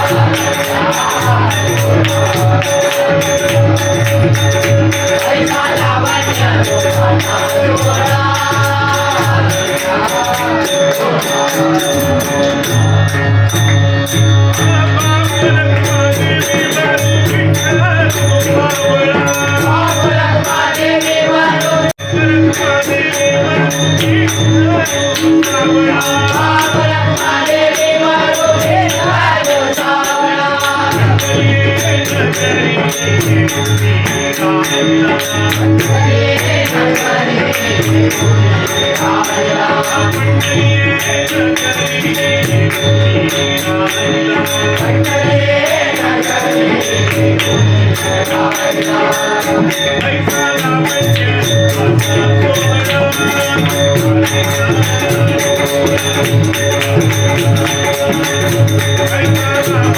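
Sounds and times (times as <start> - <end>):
harmonium: 0.0 - 59.9
jingling percussion: 0.0 - 59.9
people singing devotional song: 0.0 - 59.9.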